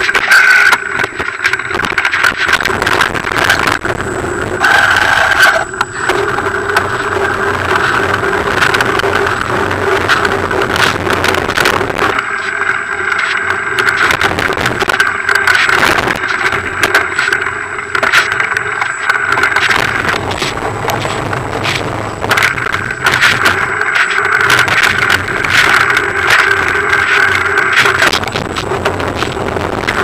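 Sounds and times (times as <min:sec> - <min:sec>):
bike rattling over stony trail: 0:00.0 - 0:03.9, 0:04.6 - 0:30.0
wheel knocking on stones: 0:00.0 - 0:30.0.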